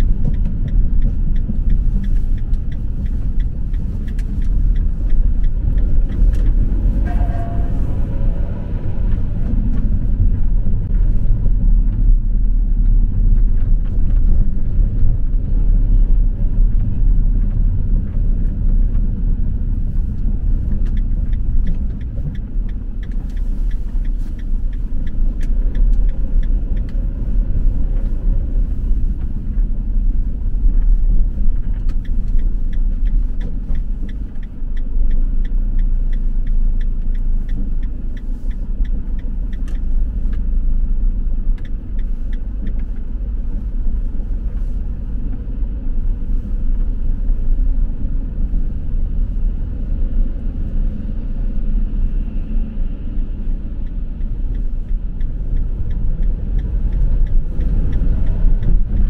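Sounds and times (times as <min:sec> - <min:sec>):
engine and road rumble: 0:00.0 - 0:59.0
light rapid ticks: 0:00.0 - 0:59.0.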